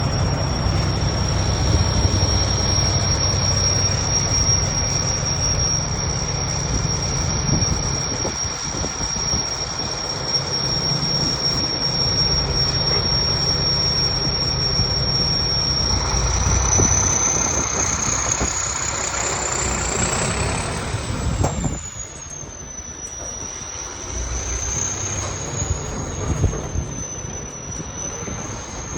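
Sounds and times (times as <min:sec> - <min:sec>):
diesel truck engine rumble: 0:00.0 - 0:28.9
turbocharger whistle: 0:00.0 - 0:28.9.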